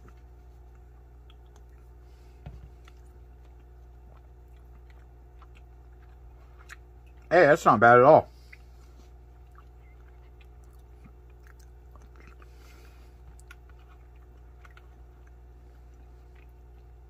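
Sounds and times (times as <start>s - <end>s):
chewing: 0.0s - 7.3s, 8.3s - 17.0s
low hum: 0.0s - 17.0s.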